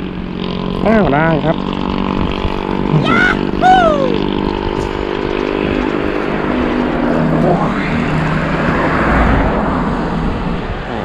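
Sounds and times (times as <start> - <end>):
road vehicle passing: 0.0 - 11.0.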